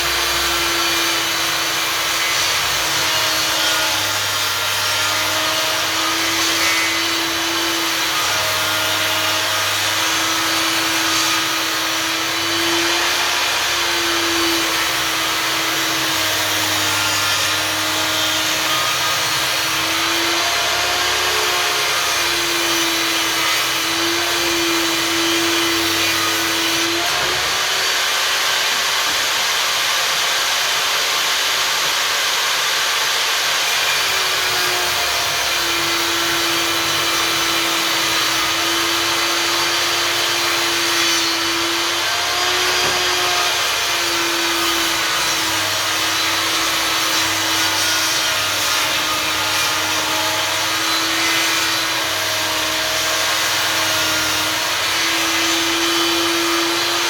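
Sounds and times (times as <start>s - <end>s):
table saw cutting wood: 0.0s - 57.0s.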